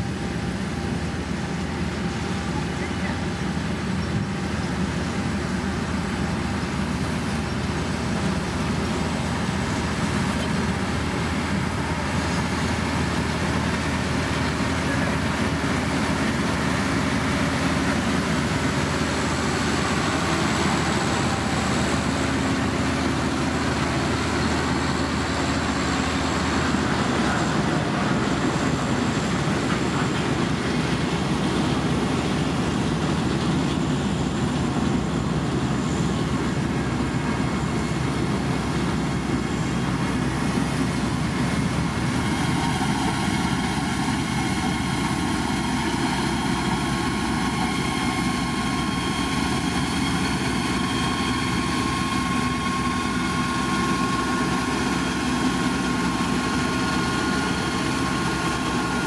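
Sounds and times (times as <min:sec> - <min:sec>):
diesel engine of grader running: 0:00.0 - 0:59.0.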